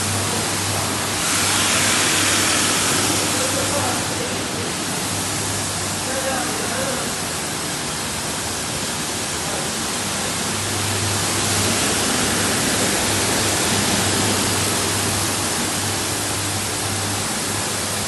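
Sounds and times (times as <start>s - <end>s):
carpet washing machine running: 0.0s - 18.0s
rushing water: 0.0s - 18.0s.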